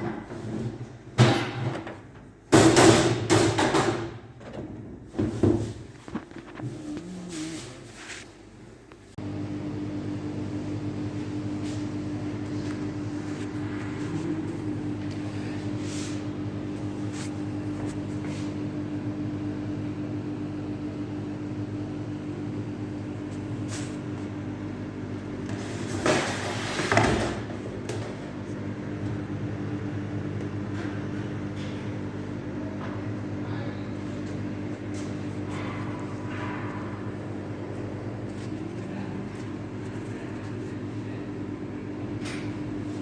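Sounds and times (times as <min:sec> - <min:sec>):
microwave oven hum: 0:00.0 - 0:43.0.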